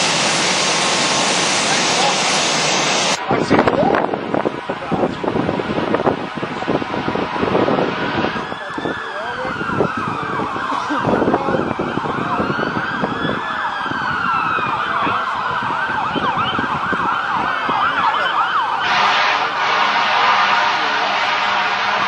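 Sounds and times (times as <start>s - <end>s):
wind buffeting microphone: 0.0s - 19.1s
distant sirens wailing: 0.0s - 22.0s
siren yelp: 0.8s - 22.0s.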